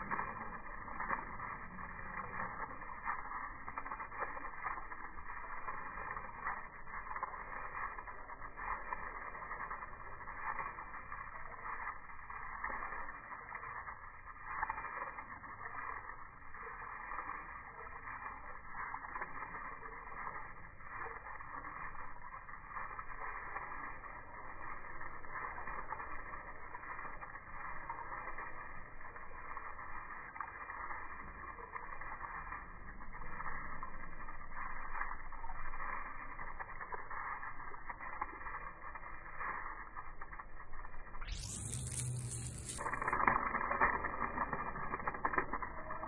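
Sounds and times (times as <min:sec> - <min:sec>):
sprinkler spraying water: 0:00.0 - 0:46.0.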